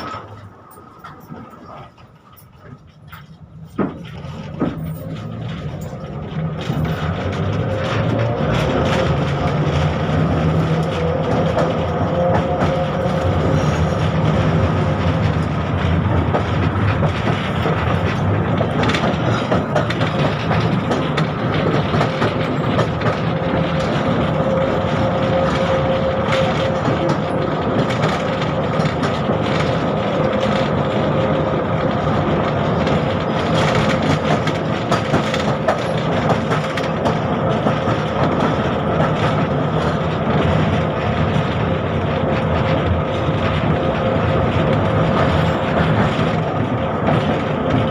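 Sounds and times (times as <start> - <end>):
rattles and knocks: 0.0 - 47.9
tram whine and rolling noise: 0.0 - 47.9.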